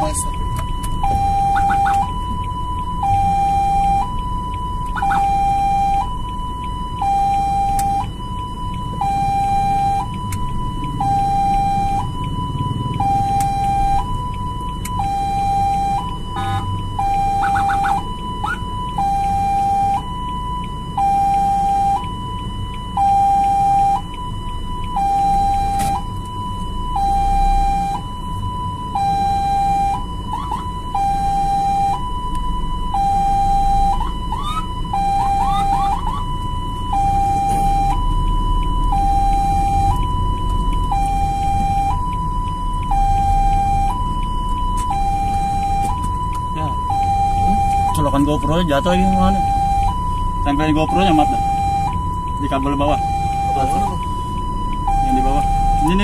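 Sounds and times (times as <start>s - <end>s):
low vehicle rumble: 0.0s - 56.0s
two-tone ambulance siren: 0.0s - 56.0s.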